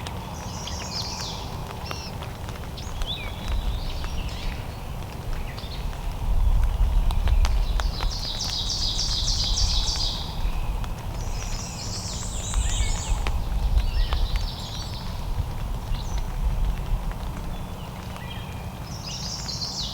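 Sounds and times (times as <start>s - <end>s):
light ticks: 0.0s - 19.6s
wind rumble on microphone: 0.0s - 19.9s
small songbird singing: 0.2s - 16.4s.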